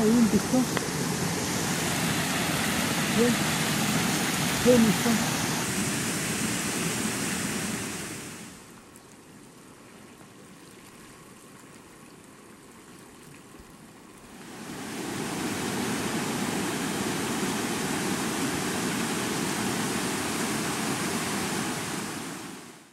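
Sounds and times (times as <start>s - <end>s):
flood water rushing: 0.0s - 22.9s.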